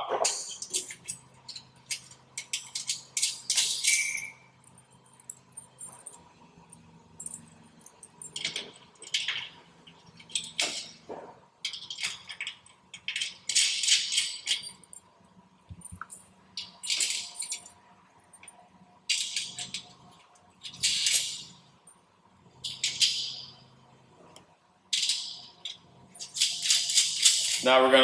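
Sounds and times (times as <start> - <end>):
metal nuts clinking: 0.2 - 28.0.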